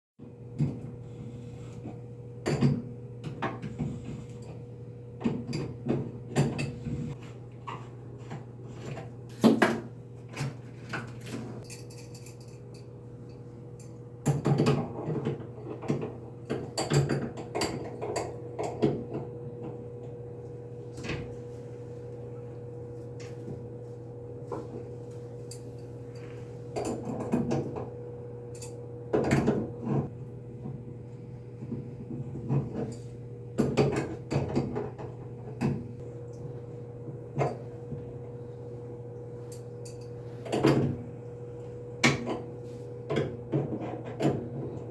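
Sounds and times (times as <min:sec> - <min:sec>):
steady electrical hum: 0:00.3 - 0:44.9.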